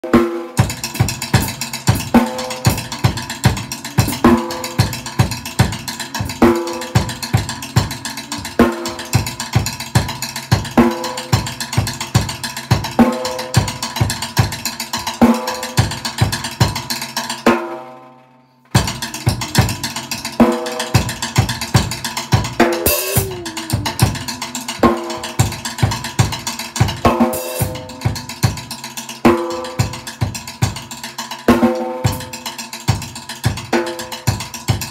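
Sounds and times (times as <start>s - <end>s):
drum kit groove: 0.0s - 17.9s, 18.7s - 34.9s.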